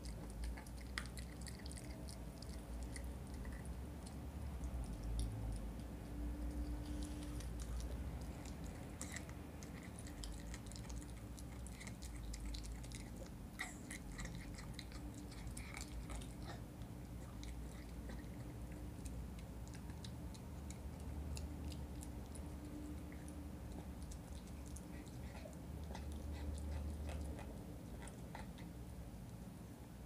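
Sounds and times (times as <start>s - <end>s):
puppy chewing a bone: 0.0s - 30.0s.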